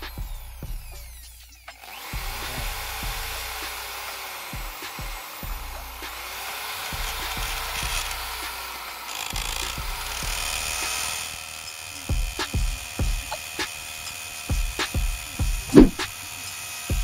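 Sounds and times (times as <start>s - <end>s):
hammer drill boring into tile: 0.1s - 17.0s.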